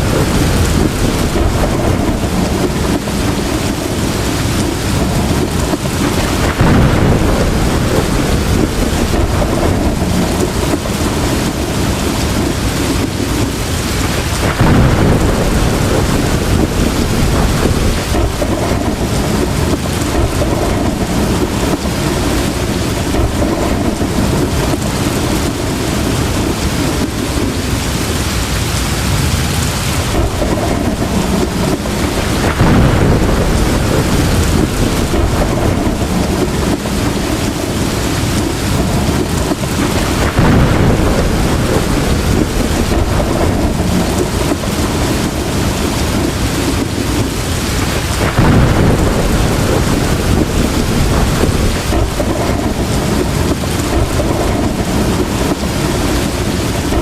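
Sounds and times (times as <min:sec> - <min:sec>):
heavy rain pouring: 0:00.0 - 0:57.0
rolling thunder: 0:00.0 - 0:57.0.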